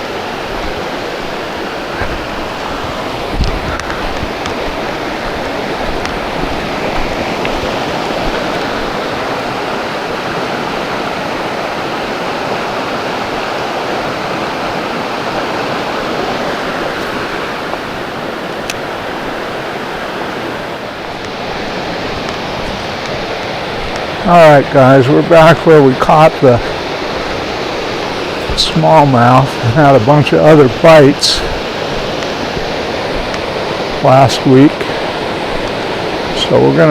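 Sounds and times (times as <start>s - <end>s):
creek water rushing: 0.0s - 36.9s.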